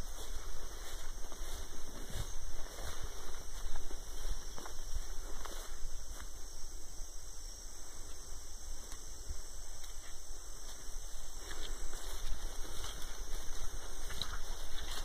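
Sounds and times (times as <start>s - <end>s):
footsteps through undergrowth: 0.0s - 15.0s.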